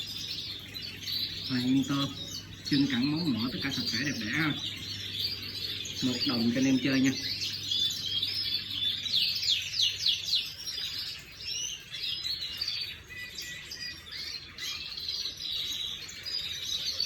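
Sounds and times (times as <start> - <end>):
canary singing in high trills: 0.0 - 17.0.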